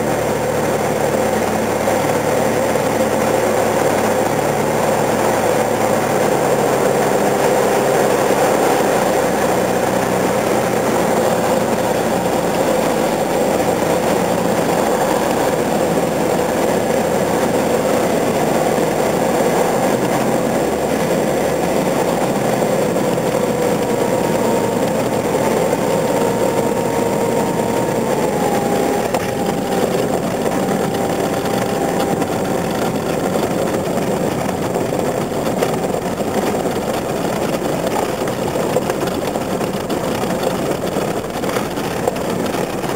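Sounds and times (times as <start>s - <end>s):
light aircraft engine drone: 0.0s - 42.9s.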